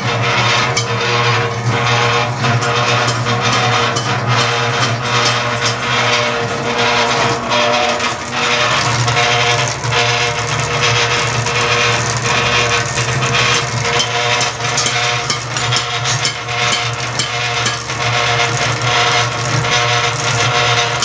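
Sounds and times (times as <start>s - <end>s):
mortar mixer motor hum: 0.0s - 21.0s.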